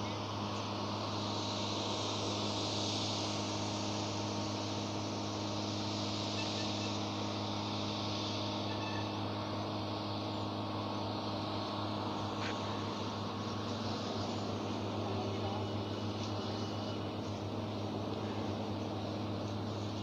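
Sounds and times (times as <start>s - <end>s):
high insect buzz: 0.0s - 20.0s
low engine hum: 0.0s - 20.0s.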